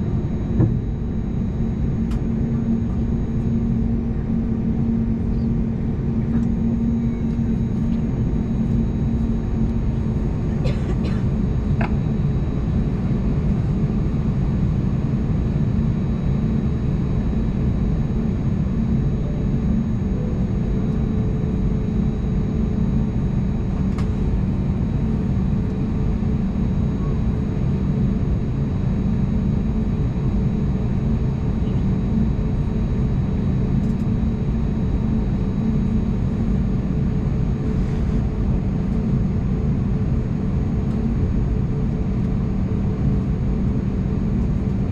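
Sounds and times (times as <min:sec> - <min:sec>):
airliner cabin drone: 0:00.0 - 0:44.9
faint constant hum: 0:00.0 - 0:44.9.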